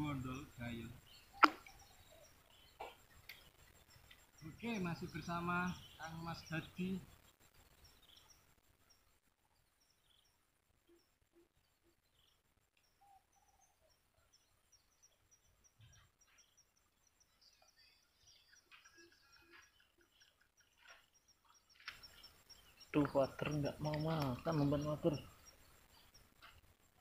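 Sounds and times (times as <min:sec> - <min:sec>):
small high bird chirps: 0:00.0 - 0:27.0.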